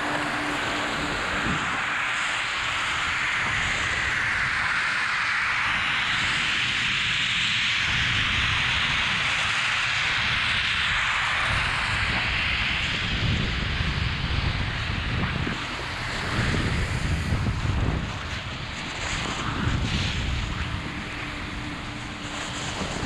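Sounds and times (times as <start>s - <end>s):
snowmaking guns hissing: 0.0s - 23.0s
wind rumbling on microphone: 0.0s - 23.0s.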